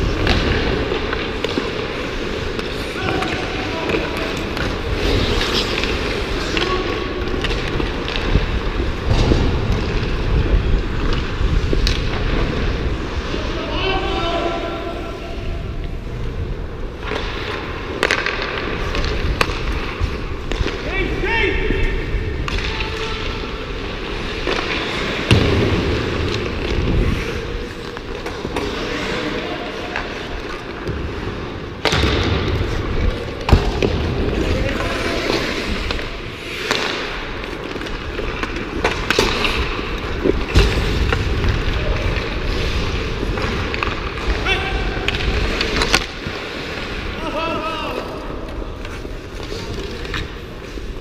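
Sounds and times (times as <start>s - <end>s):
skate blades scraping ice: 0.0s - 51.0s.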